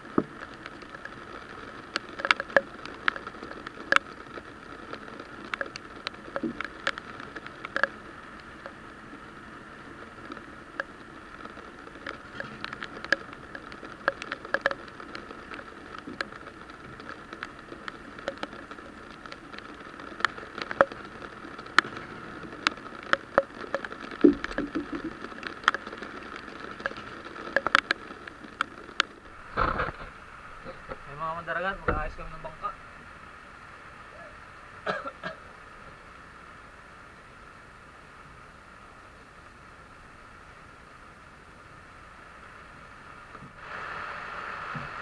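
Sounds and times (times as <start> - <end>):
raindrops ticking on deck: 0.0 - 43.6
heavy rain hissing: 0.0 - 45.0.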